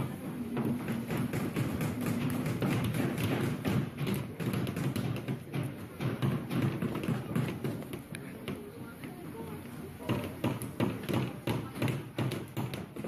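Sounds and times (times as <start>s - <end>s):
hammer tapping a nail: 0.9s - 8.6s, 10.1s - 13.0s.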